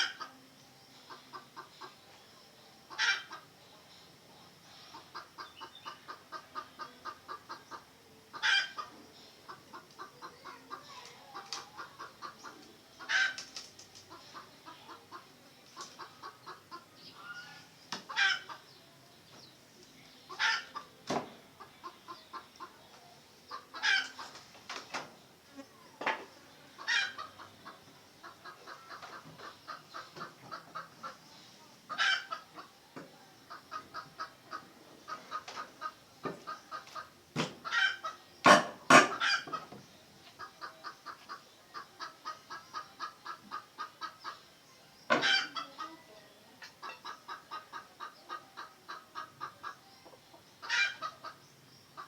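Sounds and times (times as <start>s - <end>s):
junglefowl clucking: 0.0s - 0.4s, 1.0s - 2.0s, 2.9s - 3.6s, 4.9s - 18.8s, 20.3s - 25.1s, 26.0s - 52.0s.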